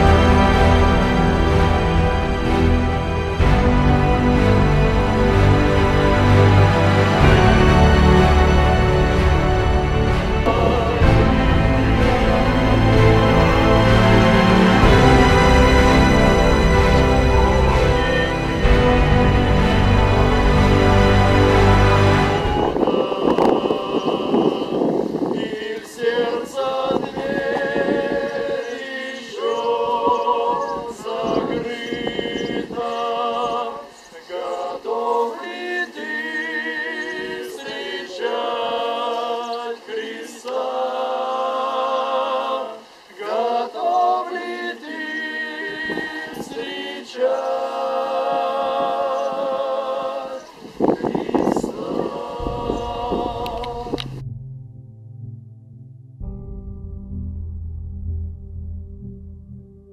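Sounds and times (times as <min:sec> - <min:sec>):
choir singing unaccompanied: 0:00.0 - 0:54.2.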